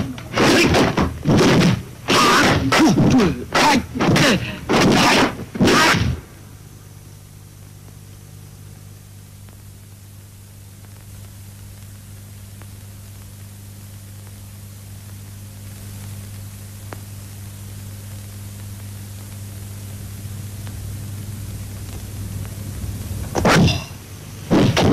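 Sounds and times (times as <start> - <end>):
film soundtrack hiss: 0.0 - 24.9.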